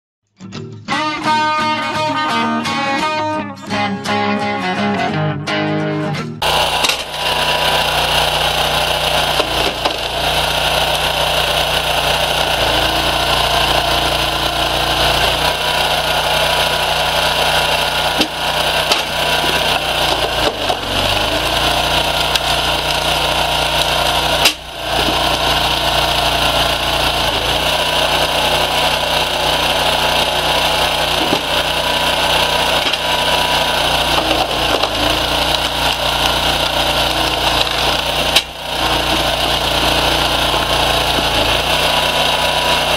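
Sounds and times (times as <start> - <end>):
engine running steadily: 6.4 - 42.9
logs knocking and splitting: 6.7 - 16.8, 17.4 - 42.4.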